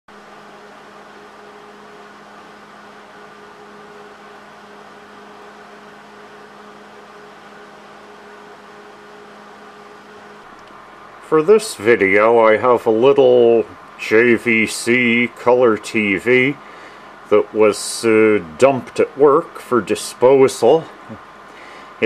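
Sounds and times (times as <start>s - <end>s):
machine hum: 0.1s - 22.0s.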